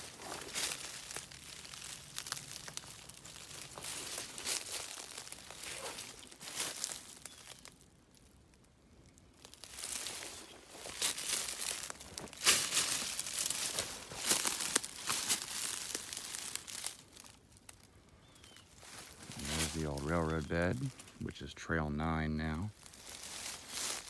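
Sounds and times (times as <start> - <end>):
leaves crunching underfoot: 0.0 - 8.4, 9.1 - 24.0.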